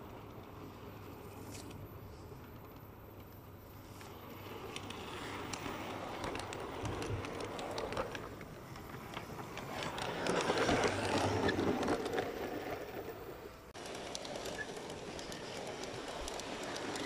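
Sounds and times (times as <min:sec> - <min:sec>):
model train wheels clicking on rails: 0:00.0 - 0:17.0.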